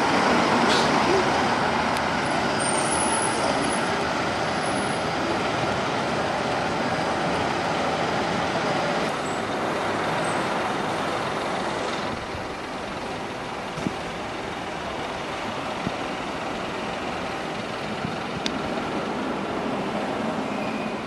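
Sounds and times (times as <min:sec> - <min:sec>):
traffic road noise: 0:00.0 - 0:21.0.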